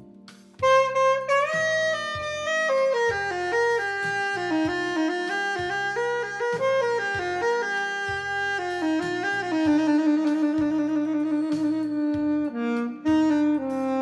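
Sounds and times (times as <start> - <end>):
instrumental lead melody: 0.0 - 14.0.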